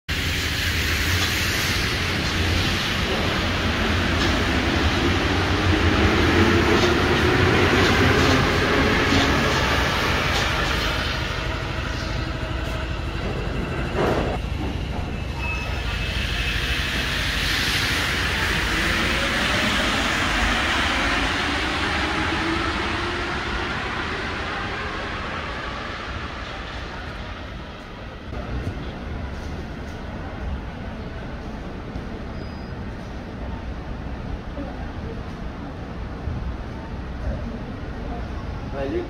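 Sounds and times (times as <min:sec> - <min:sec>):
metro train rumble: 0:00.1 - 0:39.0.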